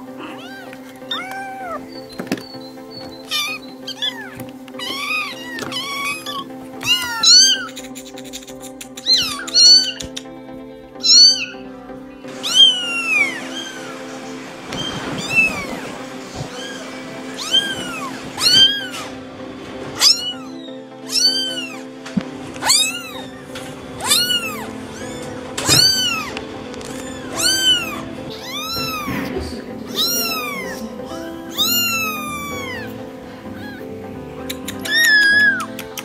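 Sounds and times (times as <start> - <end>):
kittens mewing: 0.0 - 10.4, 11.0 - 11.7, 12.3 - 19.2, 19.9 - 36.0
background music: 0.0 - 36.0.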